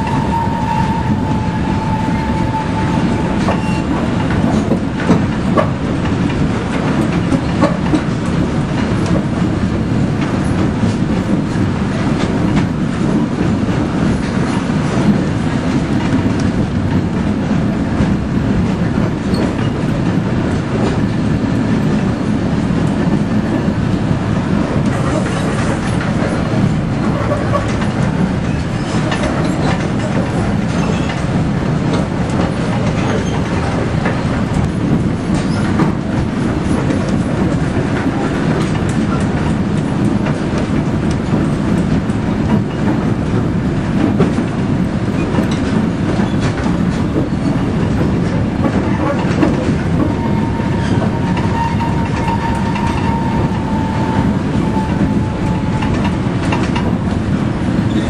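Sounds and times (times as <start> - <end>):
diesel locomotive engine drone: 0.0 - 58.0
wheels clicking over rails: 0.0 - 58.0.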